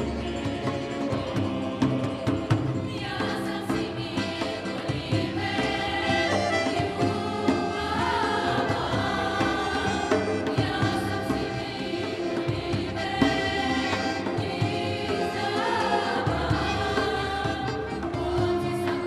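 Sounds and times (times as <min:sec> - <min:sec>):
double bass: 0:00.0 - 0:19.0
mixed choir singing in harmony: 0:00.0 - 0:19.0.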